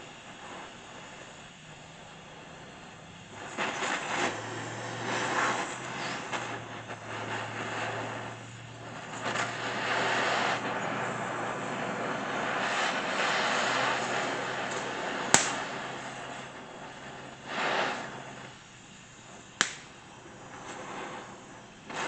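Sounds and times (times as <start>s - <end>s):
gas torch flame hissing: 0.0s - 22.0s
steady low hum: 0.0s - 22.0s.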